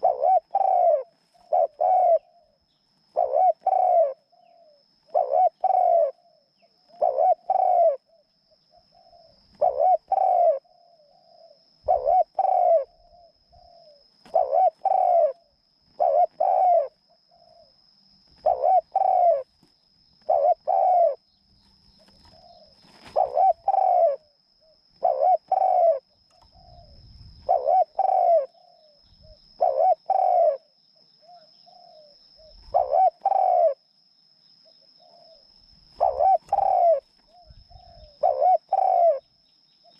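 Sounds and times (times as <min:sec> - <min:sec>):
dove cooing: 0:00.0 - 0:17.8, 0:18.4 - 0:19.6, 0:20.2 - 0:21.2, 0:22.0 - 0:33.8, 0:34.6 - 0:39.9.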